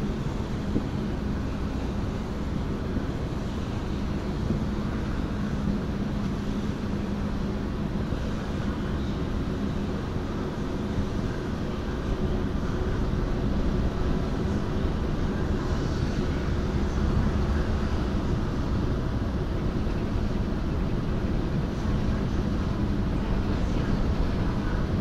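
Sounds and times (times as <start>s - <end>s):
ship diesel engine drone: 0.0s - 25.0s.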